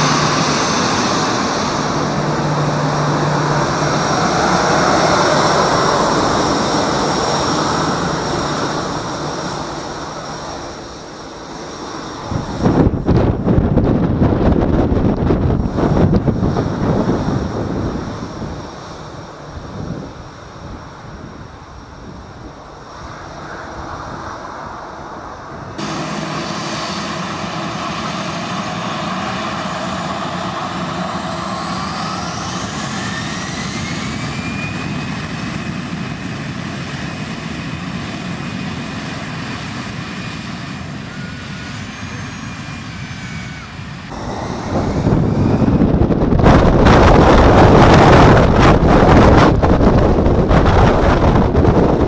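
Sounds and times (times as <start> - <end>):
jet engine rumbling roar: 0.0 - 52.0
jet engines whining: 0.0 - 52.0.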